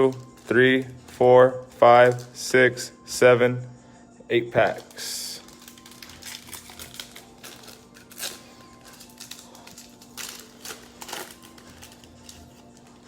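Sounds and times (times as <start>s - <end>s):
foil wrappers crinkling and tearing: 0.0s - 2.4s, 4.6s - 13.0s.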